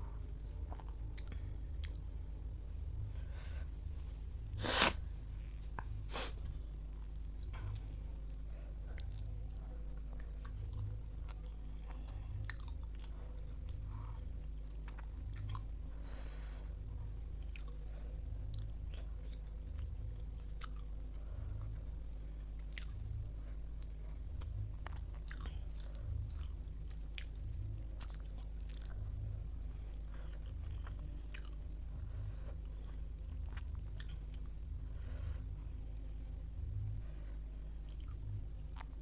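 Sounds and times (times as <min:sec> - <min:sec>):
person chewing food: 0:00.2 - 0:02.1, 0:05.7 - 0:36.7, 0:37.6 - 0:39.0.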